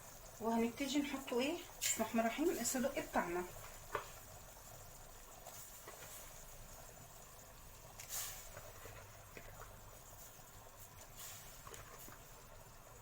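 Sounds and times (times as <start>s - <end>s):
sauce simmering in a pan: 0.0s - 13.0s.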